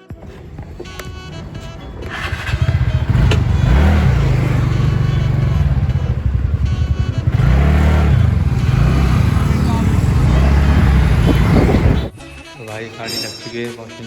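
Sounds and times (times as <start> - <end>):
scooter engine running: 0.0 - 12.1.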